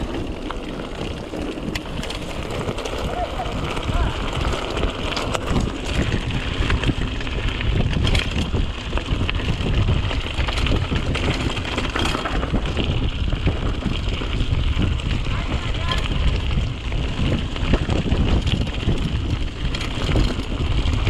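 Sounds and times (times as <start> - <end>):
bike knocking and rattling: 0.0 - 21.0
tyres over rough ground: 0.0 - 21.0
wind roar on microphone: 0.0 - 21.0.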